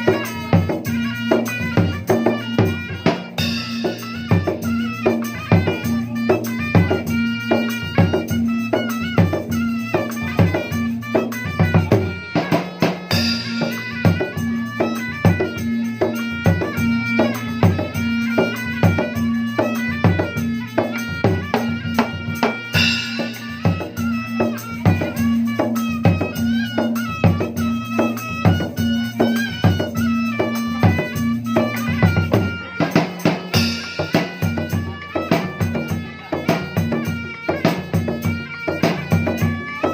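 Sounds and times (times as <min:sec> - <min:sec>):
hand drum beats: 0:00.0 - 0:39.9.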